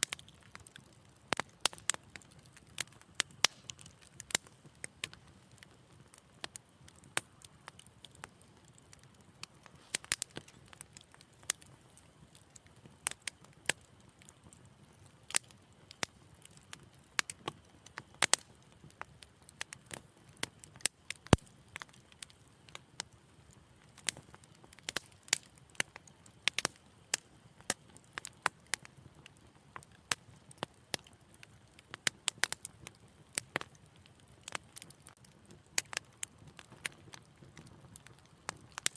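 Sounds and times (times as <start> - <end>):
fire crackling and popping: 0.0 - 38.9
fire soft low hiss: 0.0 - 38.9.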